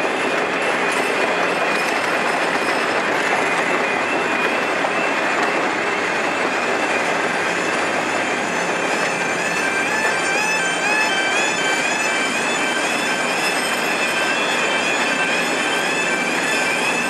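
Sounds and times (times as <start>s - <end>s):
train wheels rumbling on rail: 0.0s - 17.0s
high wheel squeal: 0.6s - 17.0s.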